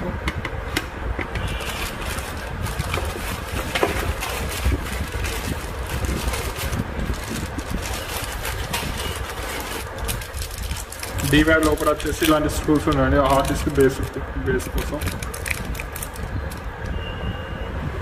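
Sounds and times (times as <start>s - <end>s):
low rumbling wind noise: 0.0s - 18.0s.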